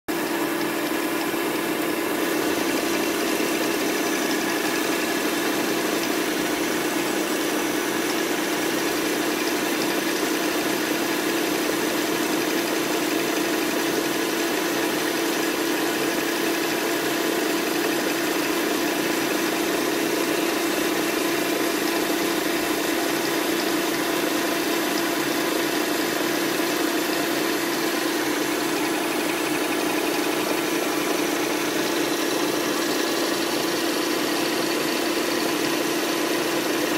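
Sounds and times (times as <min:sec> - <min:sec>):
metal lathe running: 0:00.1 - 0:36.9.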